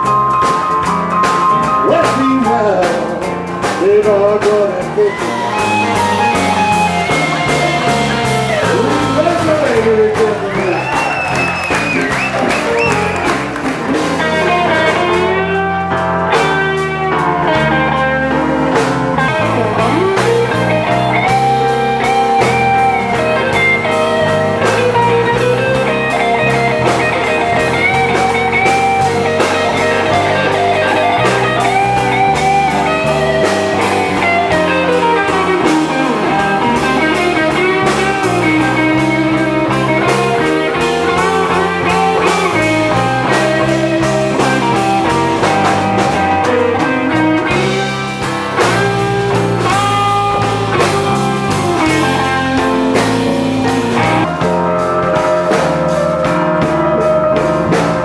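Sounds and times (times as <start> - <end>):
bass guitar: 0.0 - 58.0
drums: 0.0 - 58.0
electric guitar lead with bent notes: 0.0 - 58.0.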